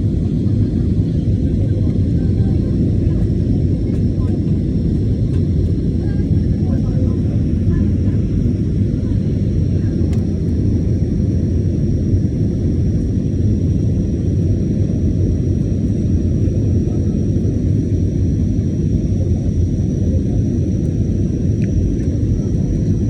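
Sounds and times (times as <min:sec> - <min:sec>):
jet engine rumble in cabin: 0:00.0 - 0:23.0.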